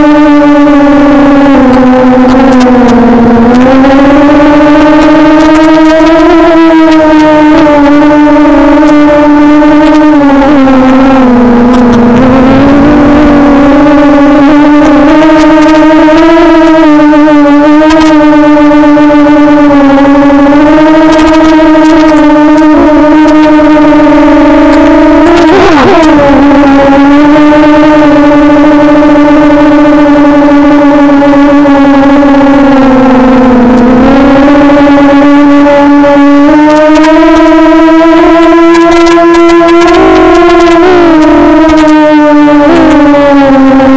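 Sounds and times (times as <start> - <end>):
drone motors whining: 0.0 - 43.9.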